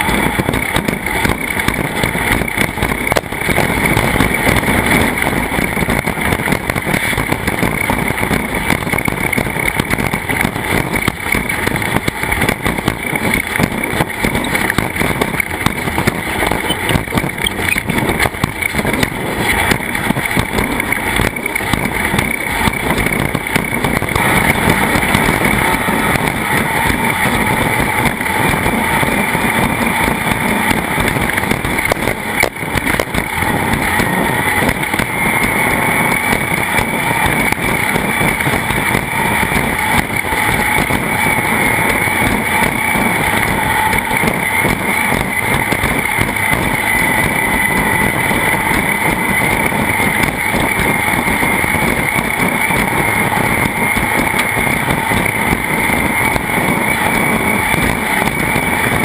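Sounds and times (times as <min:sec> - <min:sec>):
loud rushing noise: 0:00.0 - 0:59.0
racing vehicle engine: 0:00.0 - 0:59.0.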